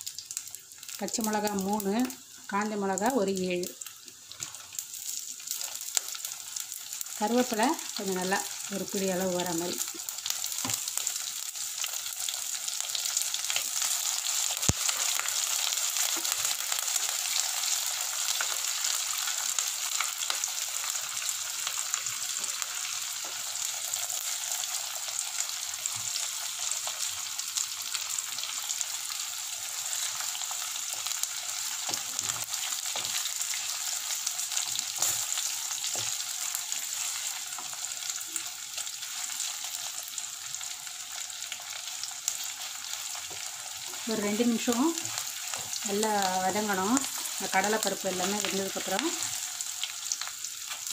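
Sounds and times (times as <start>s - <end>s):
oil sizzling: 0.0s - 50.9s.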